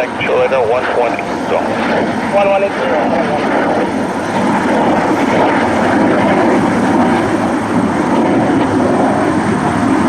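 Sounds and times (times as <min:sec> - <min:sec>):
jet aircraft noise: 0:00.0 - 0:10.0.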